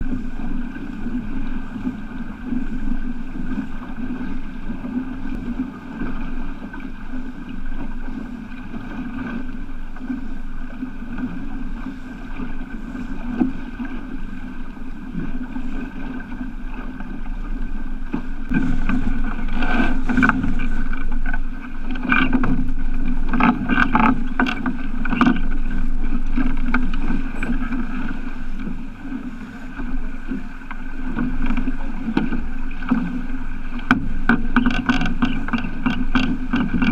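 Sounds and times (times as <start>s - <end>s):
steady low hum: 0.0s - 36.9s
water splashing around a boat: 0.0s - 36.9s
wind on microphone: 0.0s - 36.9s.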